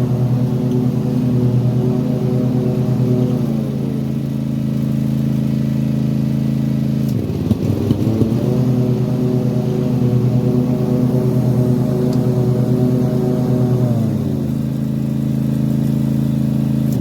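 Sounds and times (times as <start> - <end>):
engine skipping and popping: 0.0 - 17.0
mower engine running: 0.0 - 17.0.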